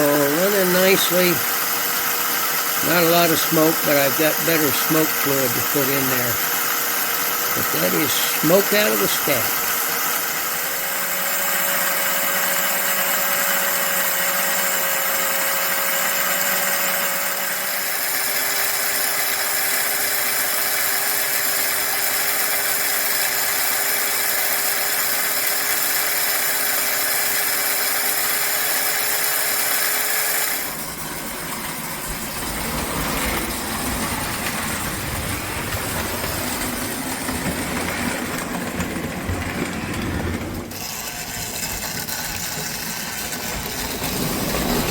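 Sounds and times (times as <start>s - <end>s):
toy train electric motor whine: 0.0s - 44.9s.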